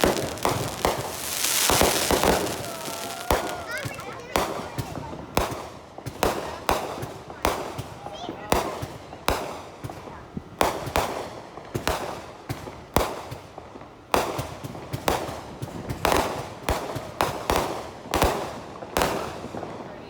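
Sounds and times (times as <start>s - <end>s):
fireworks bangs with crackle: 0.0s - 20.0s.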